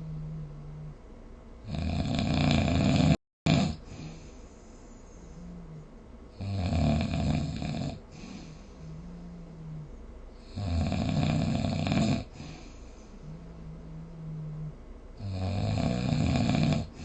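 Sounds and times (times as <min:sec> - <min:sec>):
low humming breath: 0:00.0 - 0:17.0
person snoring: 0:01.6 - 0:04.3, 0:05.2 - 0:17.0.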